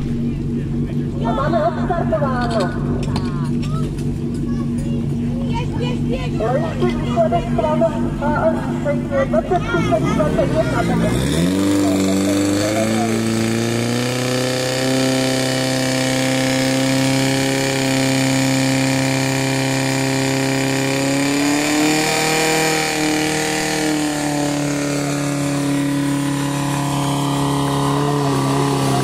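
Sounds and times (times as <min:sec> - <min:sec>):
fire pump engine running: 0:00.0 - 0:29.0.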